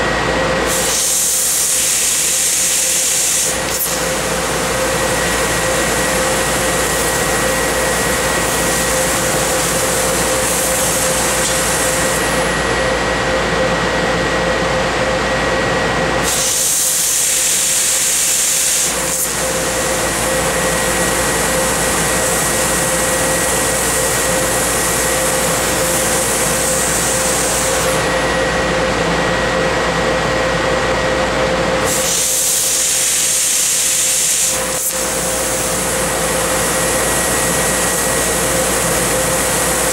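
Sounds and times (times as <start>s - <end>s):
laser cutting machine noise: 0.0s - 39.9s.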